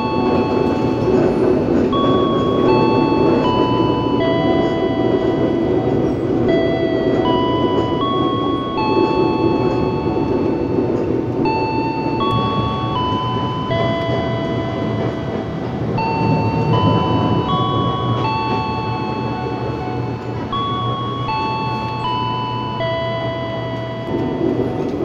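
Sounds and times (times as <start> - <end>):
chime-like melody: 0.0 - 25.0
train rumbling inside carriage: 0.0 - 25.0.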